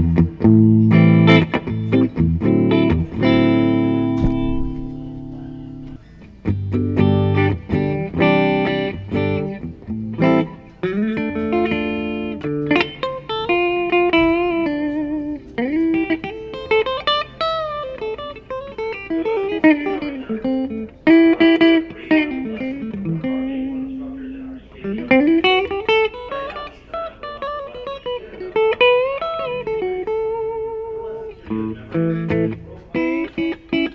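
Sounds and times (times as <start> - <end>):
clean electric guitar: 0.0 - 33.9.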